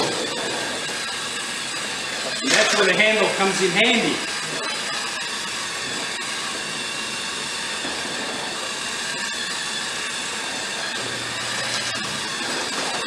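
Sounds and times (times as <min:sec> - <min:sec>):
immersion blender whisking: 0:00.0 - 0:13.0.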